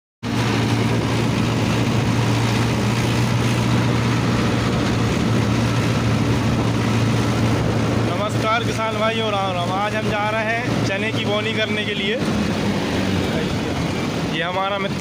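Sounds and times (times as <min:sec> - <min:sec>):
tractor diesel engine running: 0:00.2 - 0:15.0.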